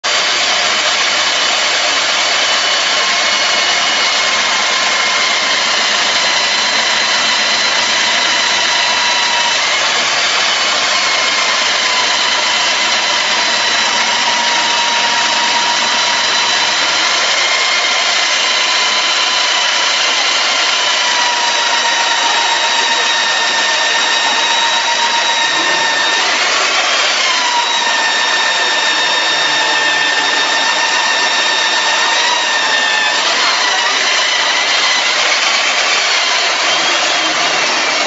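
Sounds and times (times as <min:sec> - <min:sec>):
core drill motor whine: 0:00.0 - 0:38.0.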